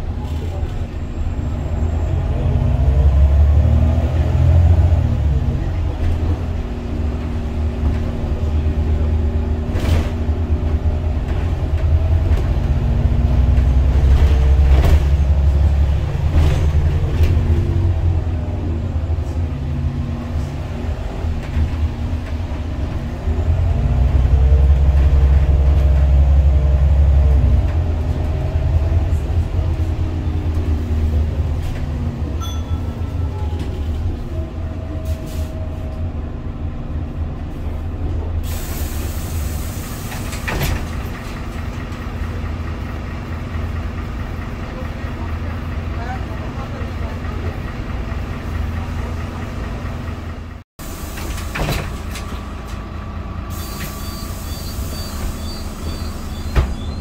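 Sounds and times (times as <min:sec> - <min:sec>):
bus diesel engine droning: 0:00.0 - 0:57.0.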